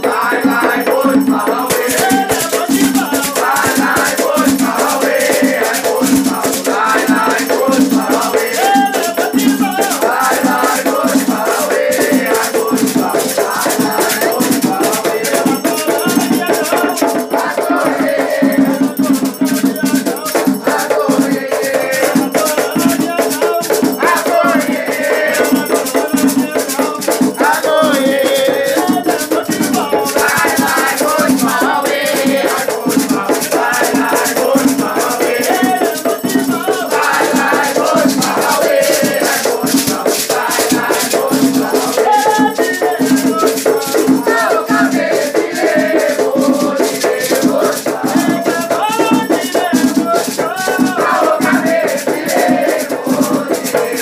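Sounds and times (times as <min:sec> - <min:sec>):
shaken rattle: 0:00.0 - 0:54.0
voices singing: 0:00.0 - 0:54.0.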